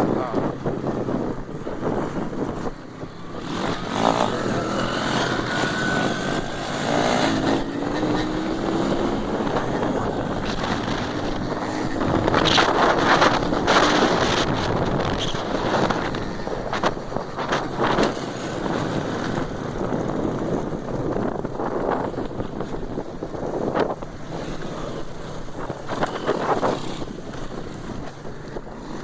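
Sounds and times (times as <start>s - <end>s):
motorcycle engines racing: 0.0s - 29.0s
wind buffeting microphone: 0.0s - 29.0s.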